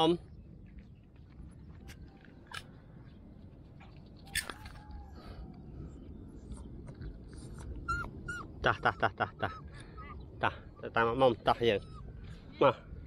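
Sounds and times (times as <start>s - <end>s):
low rumble: 0.2s - 13.0s.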